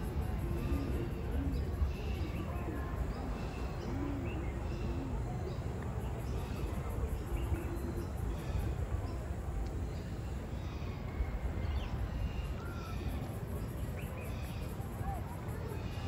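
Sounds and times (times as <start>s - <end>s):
birds calling and chirping: 0.0s - 16.0s.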